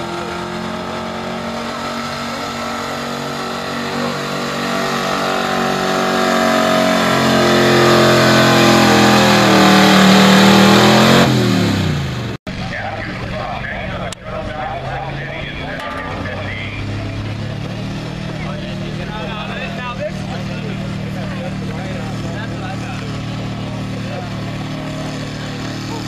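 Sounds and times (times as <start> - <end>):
truck engine at high revs: 0.0 - 26.0.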